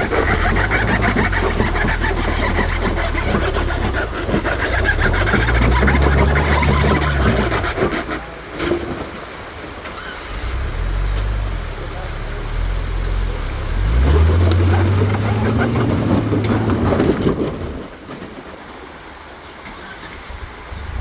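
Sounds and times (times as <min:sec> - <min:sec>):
off-road vehicle engine running low: 0:00.0 - 0:09.1, 0:10.0 - 0:18.0, 0:19.9 - 0:21.0
tires crunching over gravel: 0:00.0 - 0:21.0.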